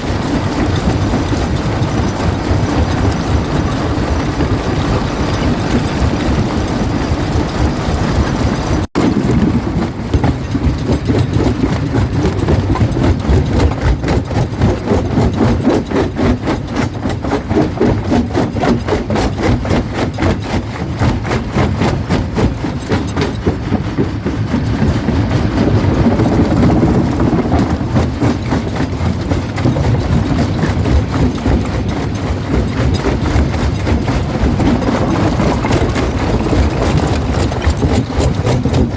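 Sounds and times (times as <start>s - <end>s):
jaw crusher rumbling: 0.0s - 38.9s
rock crunching and rattling: 0.0s - 38.9s.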